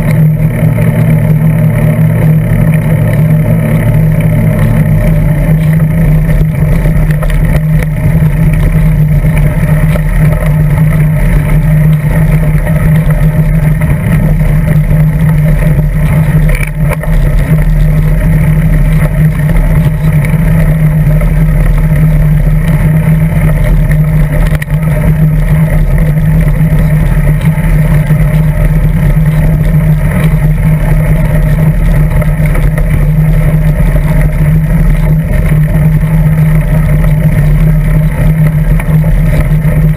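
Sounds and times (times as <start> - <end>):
bicycle rolling over gravel: 0.0 - 39.9
loud low drone: 0.0 - 39.9.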